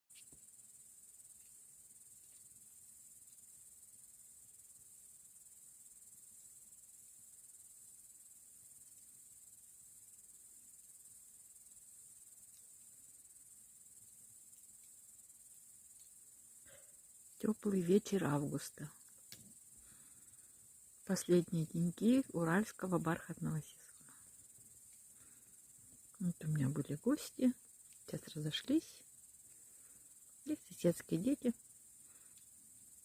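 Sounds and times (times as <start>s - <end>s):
crickets chirring: 0.1s - 33.0s.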